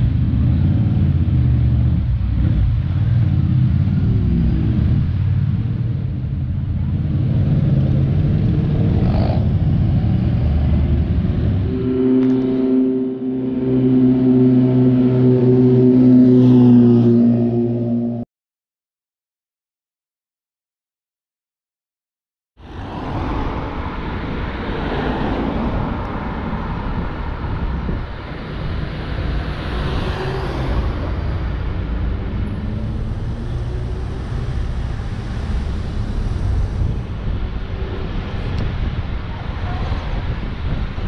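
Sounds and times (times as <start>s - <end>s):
cars driving past: 0.0s - 18.2s, 22.6s - 41.0s.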